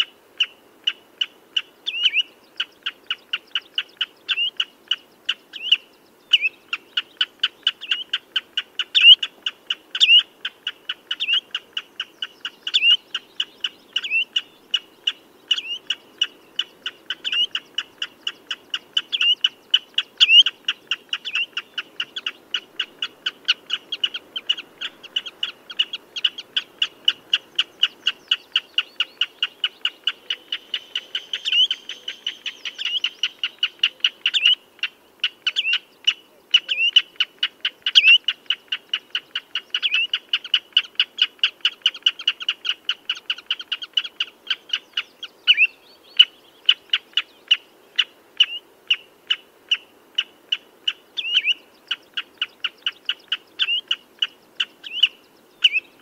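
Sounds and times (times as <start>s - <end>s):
redshank piping calls: 0.0s - 56.0s.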